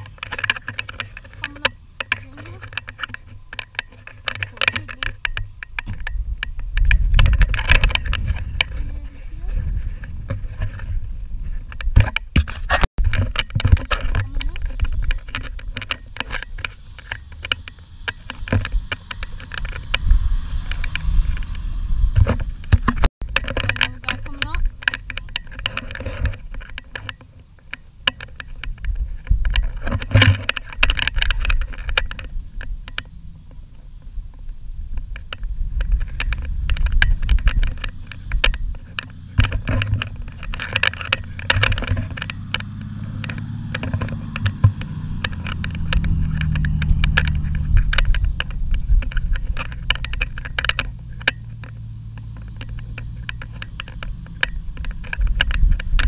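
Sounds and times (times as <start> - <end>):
sharp clicks and knocks: 0.0 - 9.1, 10.0 - 56.0
vehicle engine rumbling: 0.0 - 56.0.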